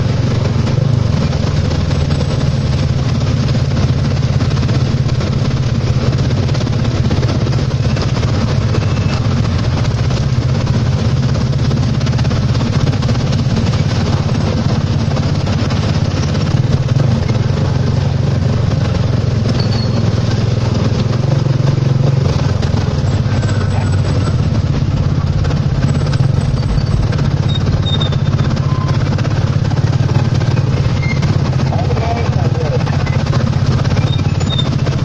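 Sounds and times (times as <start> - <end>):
motorcycle engine running: 0.0 - 35.0
wet tyres on road: 0.0 - 35.0.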